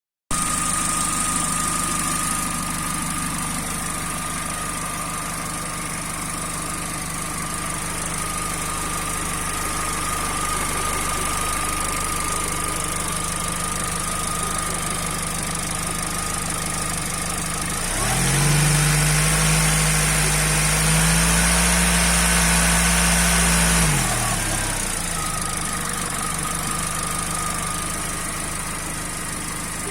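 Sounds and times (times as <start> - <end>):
car engine idling and revving: 0.3 - 29.9.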